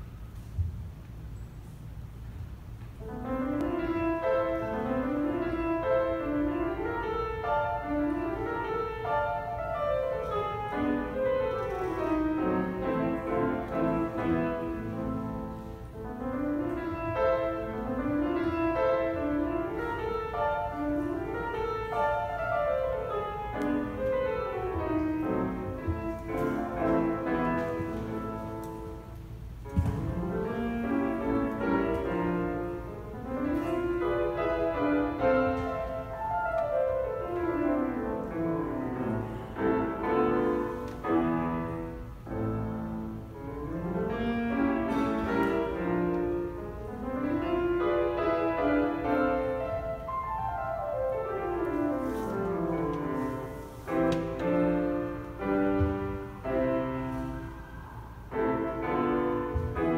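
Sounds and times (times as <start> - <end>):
grand piano playing fast runs: 2.9 - 59.9.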